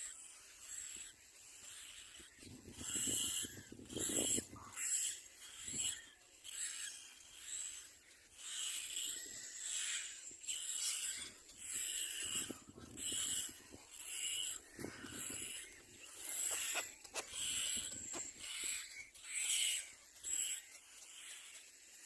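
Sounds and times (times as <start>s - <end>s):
raspy wheezy bird calls: 0.0s - 22.0s.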